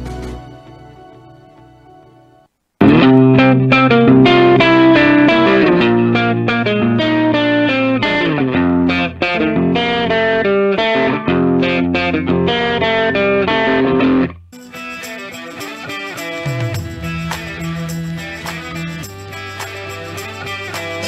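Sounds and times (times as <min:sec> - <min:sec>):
electric guitar music: 0:00.0 - 0:21.0.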